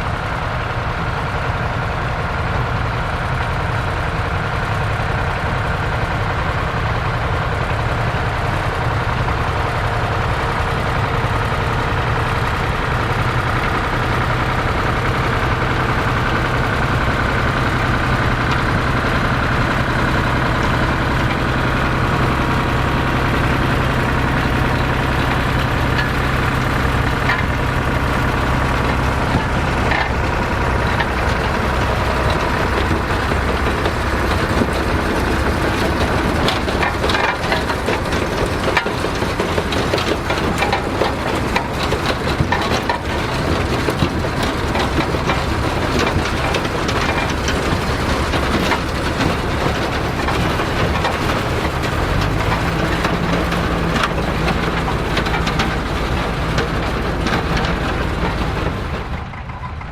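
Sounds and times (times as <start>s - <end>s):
tractor engine running: 0.0s - 59.9s
harvesting machinery clattering: 7.2s - 59.9s.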